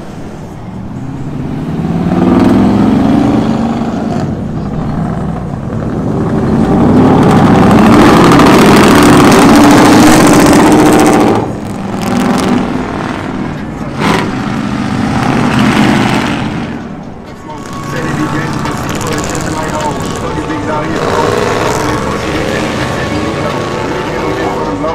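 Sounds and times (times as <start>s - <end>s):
light traffic: 0.0s - 24.9s
pickup truck engine revving: 1.0s - 24.9s.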